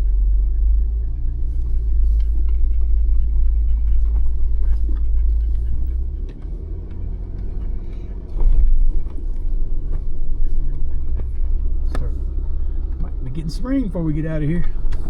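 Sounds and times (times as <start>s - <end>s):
engine low rumble: 0.0s - 15.0s
vehicle jolt: 0.0s - 15.0s.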